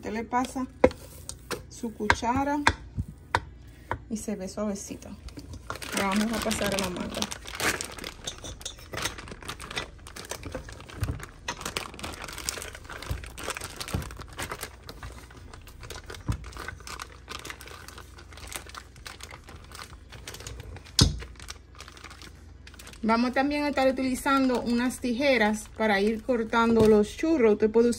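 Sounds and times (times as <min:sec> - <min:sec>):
piping bag crinkling: 0:04.5 - 0:27.4.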